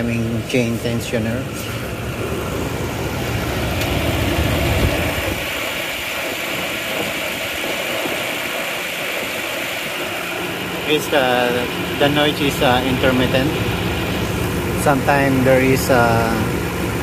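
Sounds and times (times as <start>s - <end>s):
engine idling: 0.0s - 17.0s
intermittent engine clicking: 0.0s - 17.0s.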